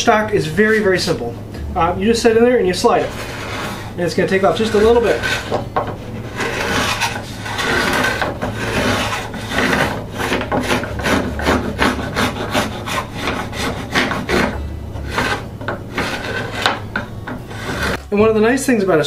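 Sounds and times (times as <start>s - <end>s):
steel cutter scraping wood: 2.8s - 18.0s.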